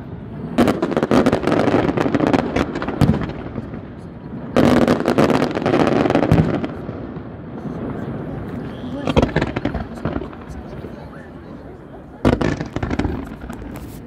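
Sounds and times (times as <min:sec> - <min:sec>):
deep fireworks booms: 0:00.0 - 0:13.9
fireworks crackling and popping: 0:00.0 - 0:14.0.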